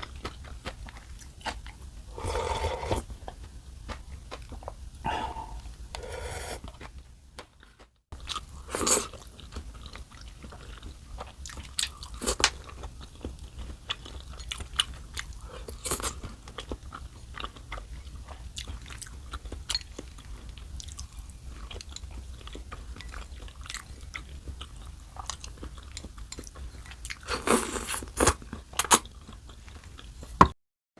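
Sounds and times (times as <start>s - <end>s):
person chewing crunchy food: 0.0s - 30.4s.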